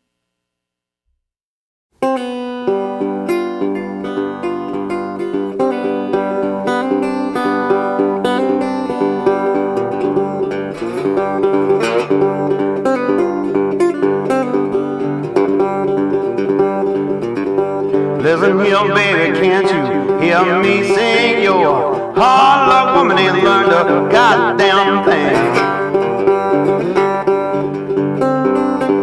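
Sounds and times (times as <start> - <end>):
acoustic guitar picking: 2.0 - 29.0.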